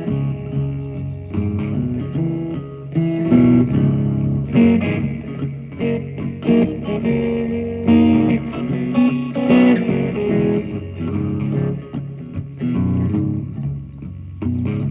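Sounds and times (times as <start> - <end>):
guitar playing: 0.0 - 14.9.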